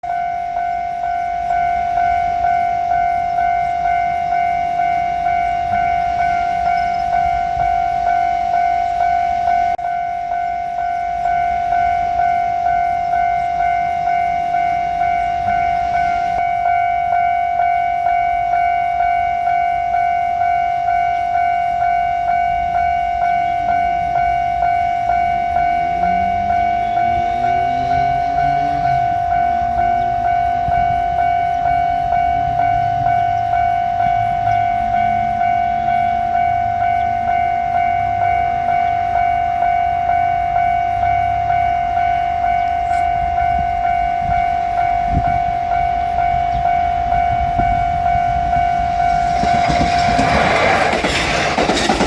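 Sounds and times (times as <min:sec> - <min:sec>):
approaching train whine: 0:00.0 - 0:52.0
level crossing bell clanging: 0:00.1 - 0:52.0.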